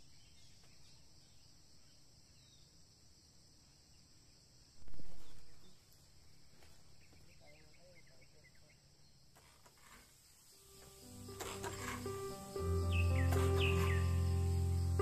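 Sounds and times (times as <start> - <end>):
insects chorus: 0.0 - 15.0
rural background noise: 0.0 - 15.0.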